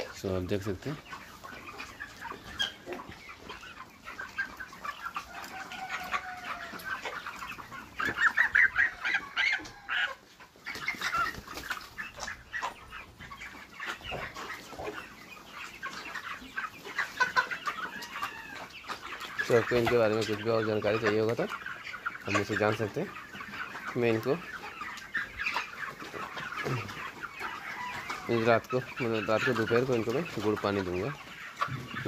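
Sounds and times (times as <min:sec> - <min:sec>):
chickens clucking and peeping: 0:00.0 - 0:32.0.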